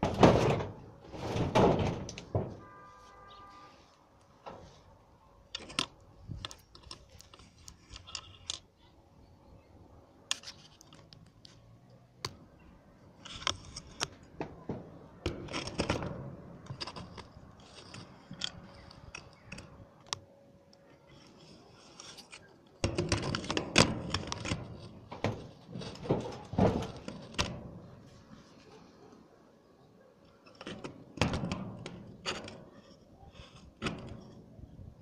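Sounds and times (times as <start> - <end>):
handling clicks taps and scrapes: 3.9 - 8.9, 10.3 - 29.3, 30.1 - 35.0.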